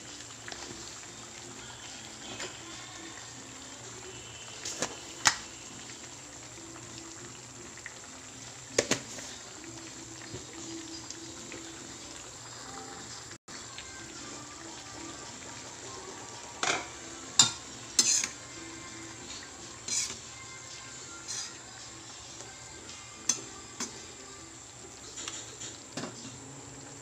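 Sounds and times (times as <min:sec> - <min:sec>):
broth bubbling in a wok: 0:00.0 - 0:27.0.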